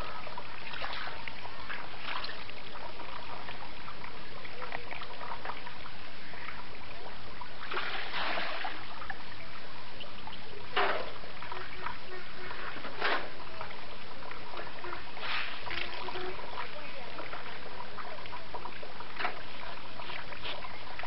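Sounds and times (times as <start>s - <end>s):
water splashes: 0.0s - 21.0s
water trickling into metal bucket: 0.0s - 21.0s.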